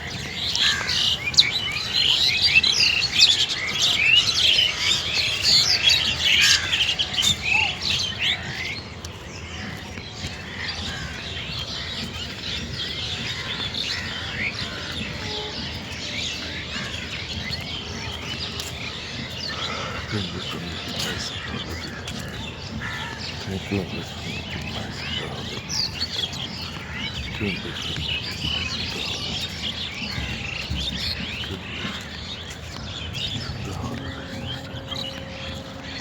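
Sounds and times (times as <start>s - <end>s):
small birds chirping in chorus: 0.0s - 36.0s.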